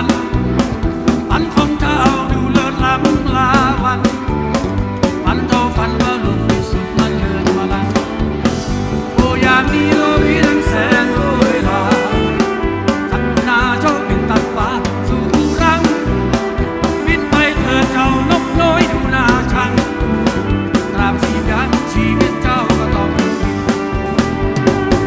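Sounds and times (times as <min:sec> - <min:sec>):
live rock band playing: 0:00.0 - 0:25.0
outdoor crowd: 0:00.0 - 0:25.0.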